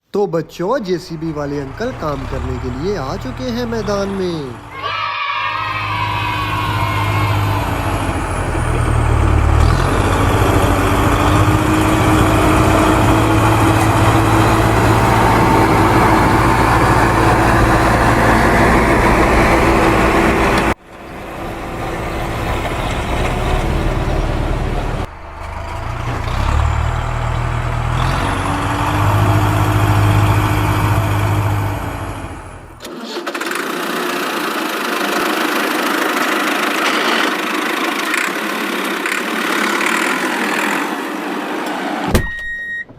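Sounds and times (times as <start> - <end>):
backhoe loader engine running: 0.6 - 42.9.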